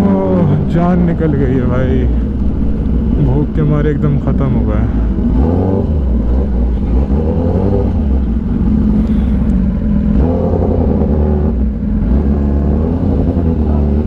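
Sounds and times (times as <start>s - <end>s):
motorcycle engine low revs: 0.0s - 14.0s.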